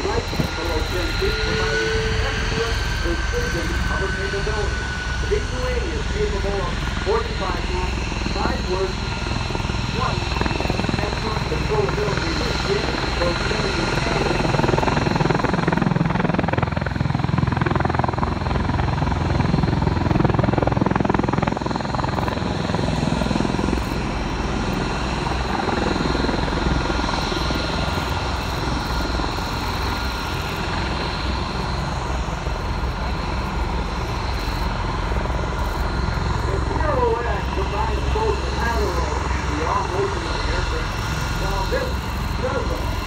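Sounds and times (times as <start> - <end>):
tiltrotor aircraft hovering: 0.0 - 43.0.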